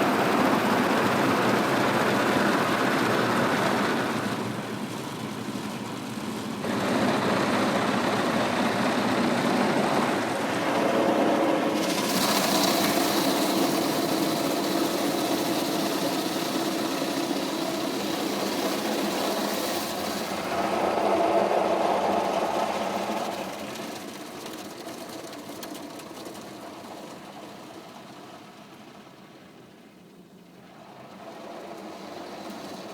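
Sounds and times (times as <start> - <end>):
car wash machinery humming: 0.0 - 32.9.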